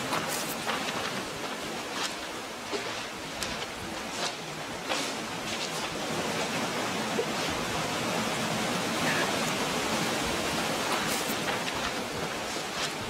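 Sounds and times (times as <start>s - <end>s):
sea water washing over shingle: 0.0s - 13.0s.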